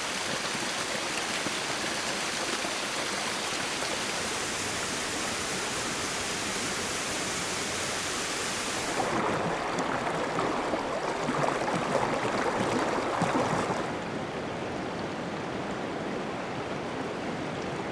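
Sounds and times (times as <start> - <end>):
stream water flowing: 0.0 - 15.1.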